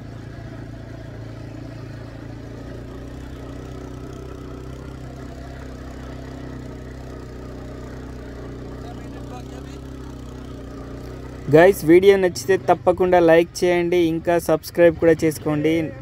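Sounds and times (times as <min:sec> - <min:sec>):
quad bike engine running: 0:00.0 - 0:16.0.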